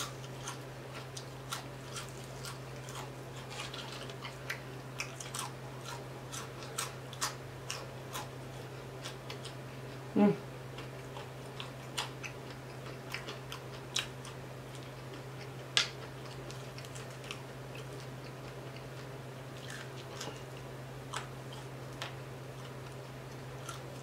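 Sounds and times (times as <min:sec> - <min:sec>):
crunchy chewing: 0:00.0 - 0:10.1, 0:10.7 - 0:24.0.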